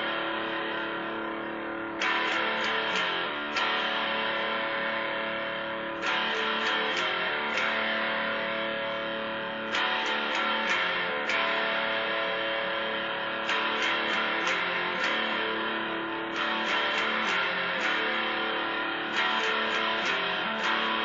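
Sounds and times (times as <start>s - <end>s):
electric guitar strummed chords: 0.0s - 21.0s.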